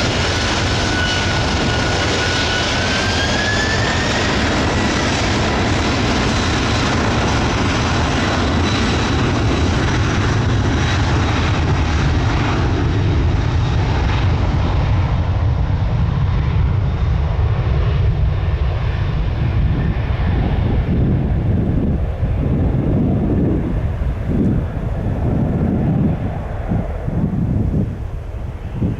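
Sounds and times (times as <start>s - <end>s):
jet engine high whine: 0.0s - 28.9s
jet engines rumbling: 0.0s - 28.9s.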